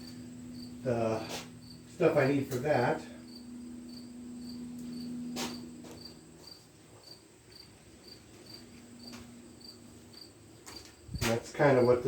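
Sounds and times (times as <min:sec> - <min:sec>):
cricket chirping: 0:00.0 - 0:01.8, 0:02.8 - 0:12.0
low hum: 0:00.0 - 0:11.2.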